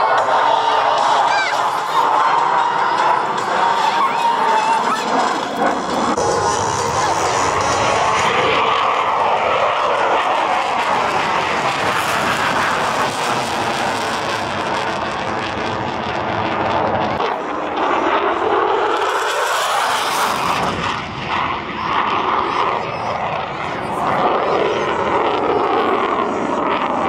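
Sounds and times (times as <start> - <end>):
fighter jets passing: 0.0 - 27.0.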